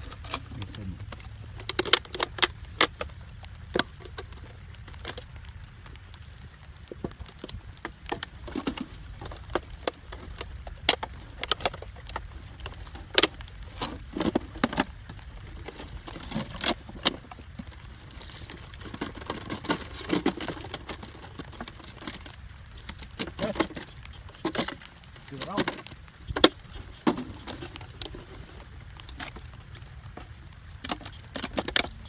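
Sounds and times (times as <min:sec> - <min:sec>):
water splashing: 0:00.0 - 0:32.0.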